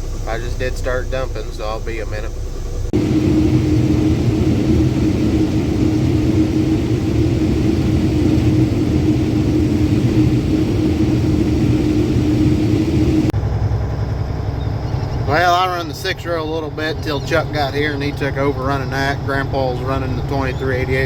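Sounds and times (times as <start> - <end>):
combine harvester machine drone: 0.0 - 21.0.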